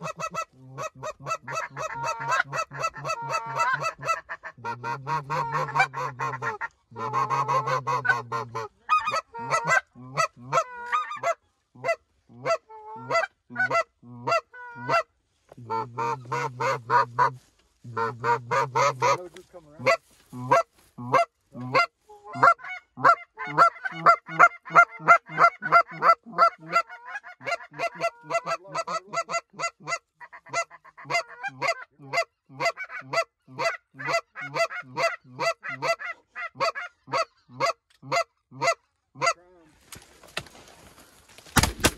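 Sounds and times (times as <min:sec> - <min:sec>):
goose yelping calls: 0:00.0 - 0:15.0, 0:15.7 - 0:17.4, 0:18.0 - 0:19.2, 0:19.8 - 0:39.4.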